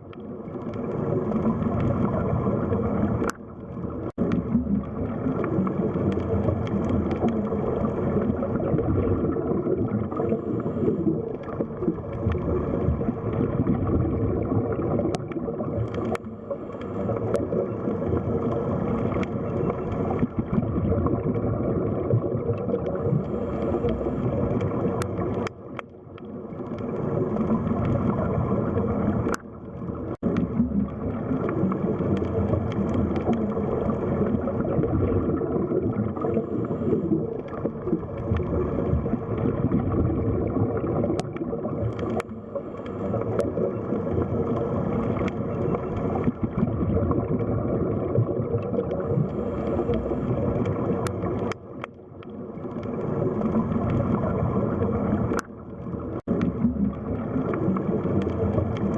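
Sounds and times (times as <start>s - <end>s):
underwater rush and gurgle: 0.0s - 58.9s.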